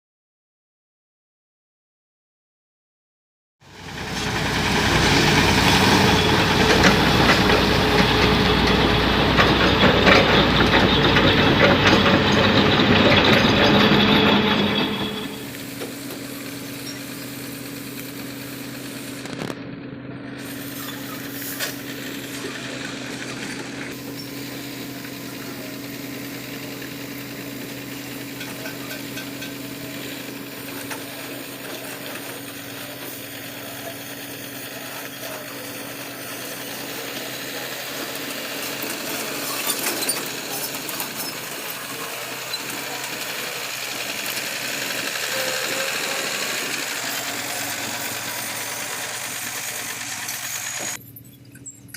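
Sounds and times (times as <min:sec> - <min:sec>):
diesel machinery engine hum: 0:03.6 - 0:51.9.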